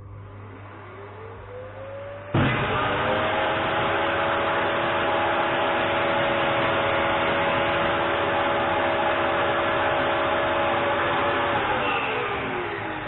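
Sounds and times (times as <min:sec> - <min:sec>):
table saw motor whining: 0:00.0 - 0:13.0.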